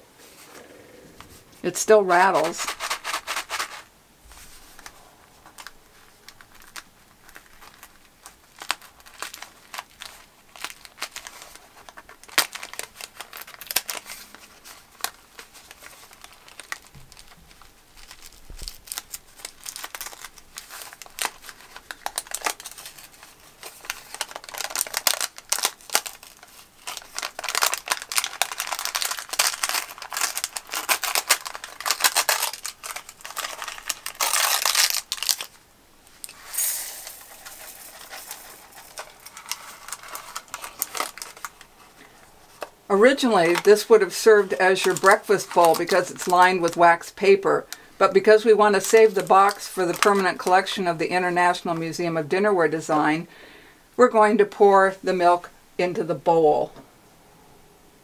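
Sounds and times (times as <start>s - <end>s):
wax paper crinkling: 1.8s - 52.0s.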